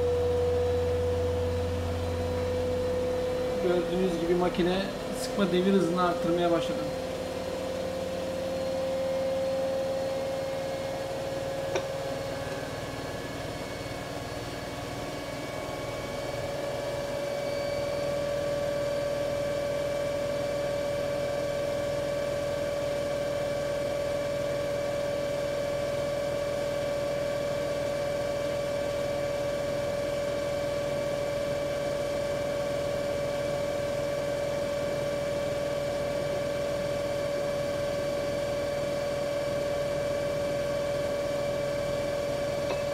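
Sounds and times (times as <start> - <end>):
washing machine spin motor whine: 0.0 - 42.9.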